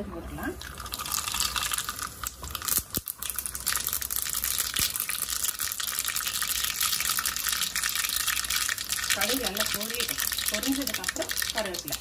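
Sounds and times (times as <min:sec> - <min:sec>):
seeds sizzling in hot oil: 0:00.4 - 0:12.0
seeds popping: 0:00.6 - 0:12.0.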